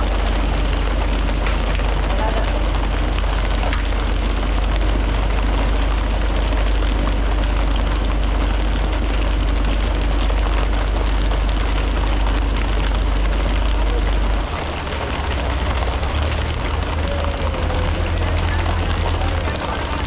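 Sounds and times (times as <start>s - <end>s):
boat engine droning: 0.0s - 20.0s
hiss of wind and water: 0.0s - 20.0s.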